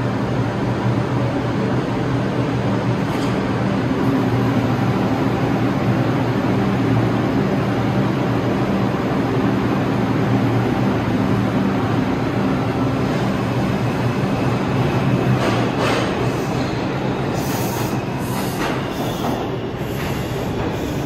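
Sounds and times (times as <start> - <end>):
subway train rumbling: 0.0 - 21.0
wheel and rail rushing noise: 0.0 - 21.0.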